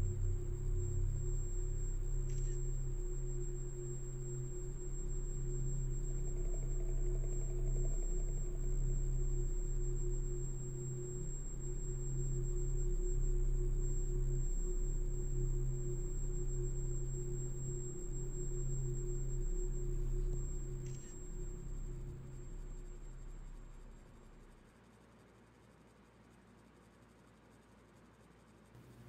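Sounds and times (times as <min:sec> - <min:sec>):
ambient suspense drone: 0:00.0 - 0:24.7.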